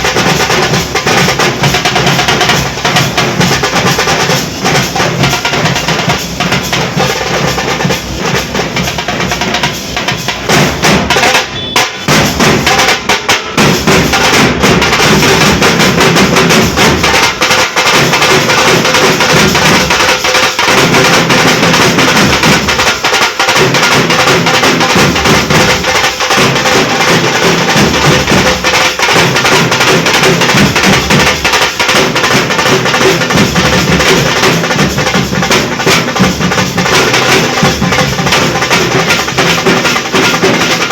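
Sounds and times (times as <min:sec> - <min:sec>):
barrel drums beating: 0:00.0 - 0:40.9.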